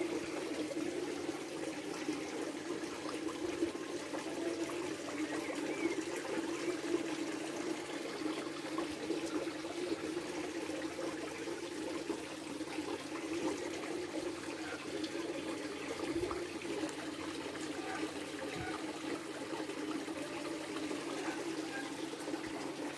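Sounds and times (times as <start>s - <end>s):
running trickling water: 0.0s - 22.9s.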